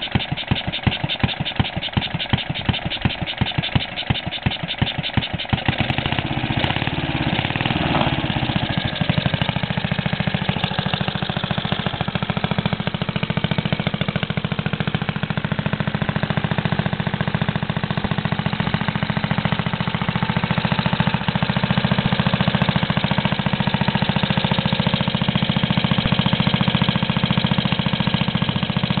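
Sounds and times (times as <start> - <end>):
single-cylinder engine running: 0.0 - 29.0.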